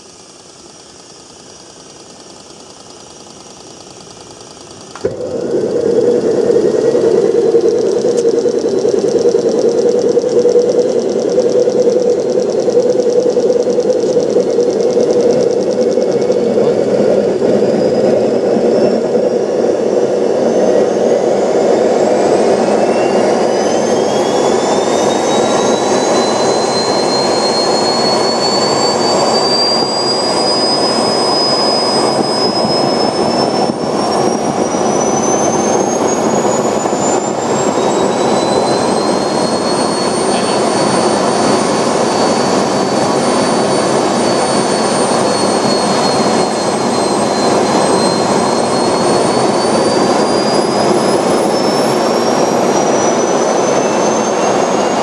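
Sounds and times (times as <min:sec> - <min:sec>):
model jet turbine whining: 0:00.0 - 0:55.0.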